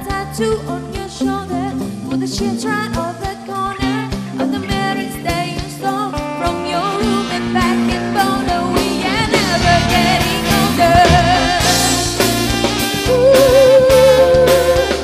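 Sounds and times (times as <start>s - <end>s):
live pop band playing: 0.0s - 15.0s
saxophone: 0.0s - 15.0s
woman singing: 0.0s - 15.0s.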